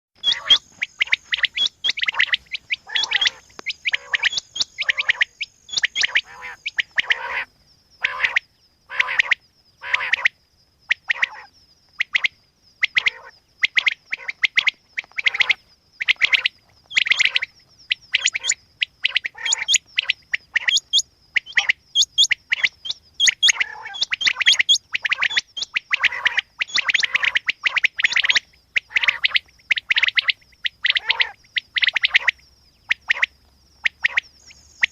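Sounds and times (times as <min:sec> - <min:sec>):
quail calling: 0:00.2 - 0:34.9.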